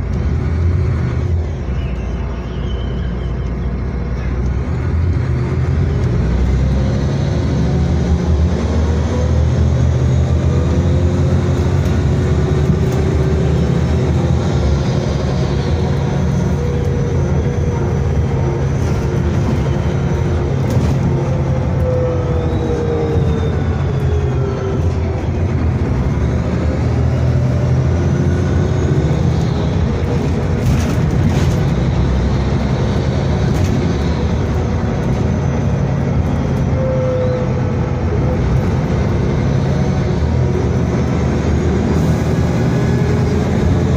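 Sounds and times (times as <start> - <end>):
bus engine drone: 0.0 - 43.9
drivetrain whine: 0.0 - 43.9.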